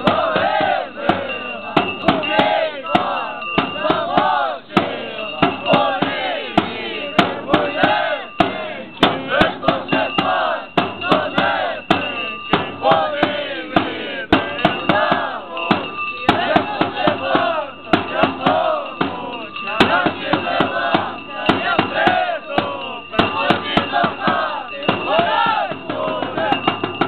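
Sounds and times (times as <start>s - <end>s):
music with sharp beats: 0.0s - 27.0s.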